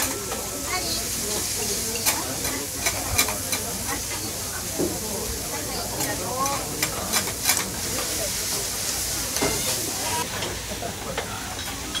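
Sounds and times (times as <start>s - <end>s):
noodles sizzling on griddle: 0.0s - 12.0s.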